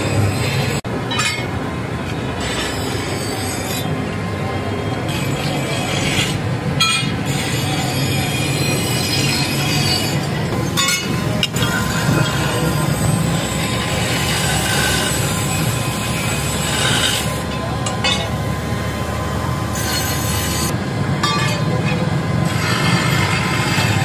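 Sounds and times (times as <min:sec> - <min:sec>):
forge blower rushing drone: 0:00.0 - 0:24.0.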